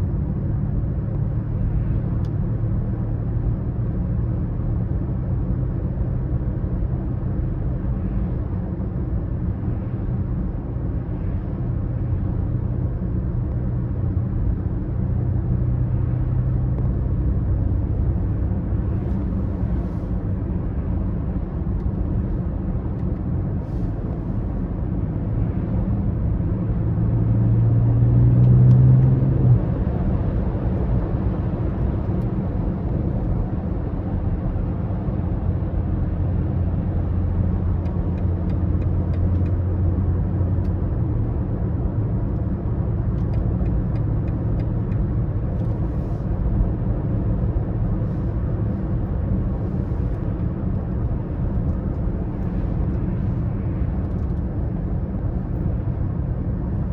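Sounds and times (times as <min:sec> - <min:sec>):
road noise: 0:00.0 - 0:56.9.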